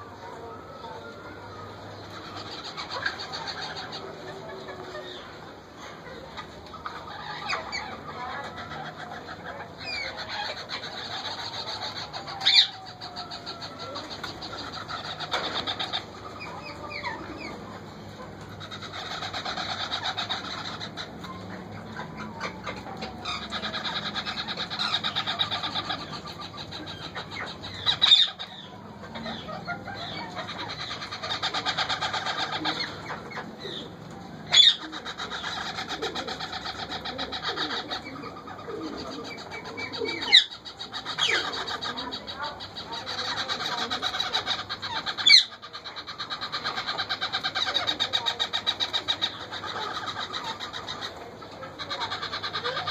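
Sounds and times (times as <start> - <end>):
parrot chicks begging calls: 0.0 - 52.9.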